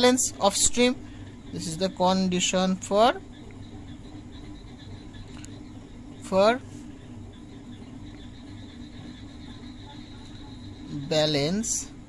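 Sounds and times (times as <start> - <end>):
faint high whine: 0.0 - 12.0
low room hum: 0.0 - 12.0.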